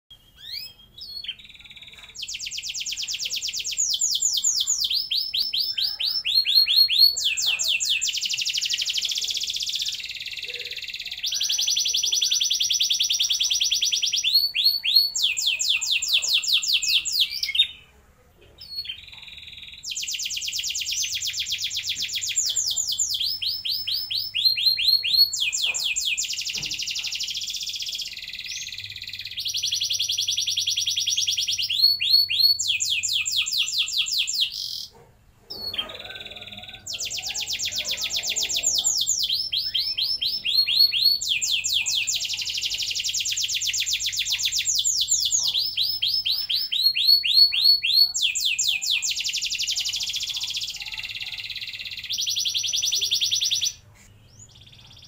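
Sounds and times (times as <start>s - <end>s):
canary singing rolling phrases: 0.1s - 55.0s.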